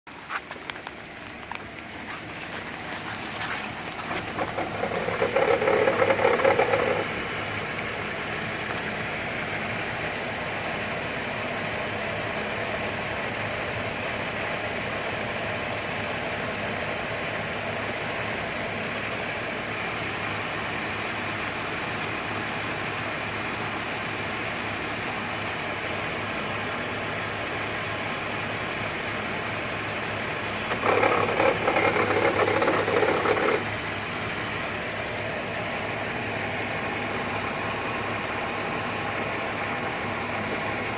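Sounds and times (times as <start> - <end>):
car engine idling with rattle: 0.1 - 40.9.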